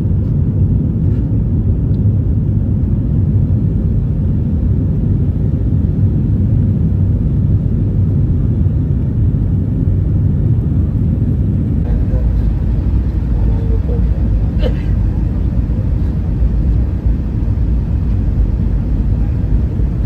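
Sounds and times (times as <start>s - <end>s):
jet cabin engine rumble: 0.0s - 20.0s.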